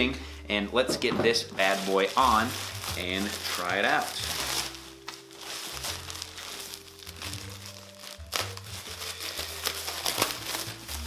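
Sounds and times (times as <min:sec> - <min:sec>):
soft background music: 0:00.0 - 0:11.0
plastic packaging crinkling: 0:00.8 - 0:11.0.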